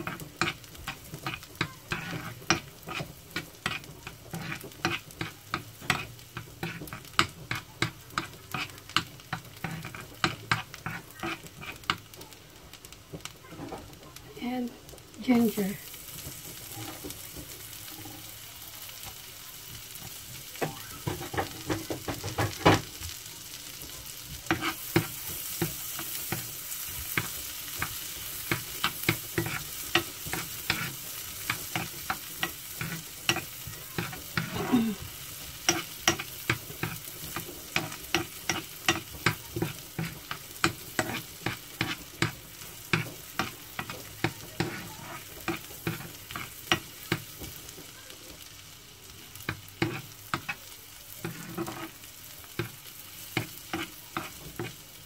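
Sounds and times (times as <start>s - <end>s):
garlic sizzling in butter: 0.0s - 55.0s.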